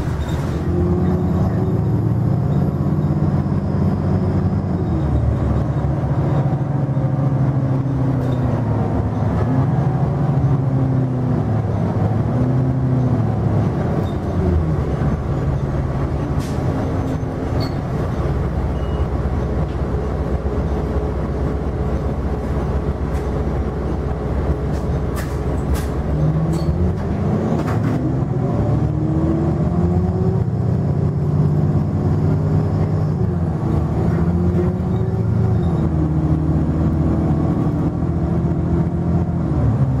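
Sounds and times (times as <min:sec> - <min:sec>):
bus engine from inside: 0:00.0 - 0:40.0.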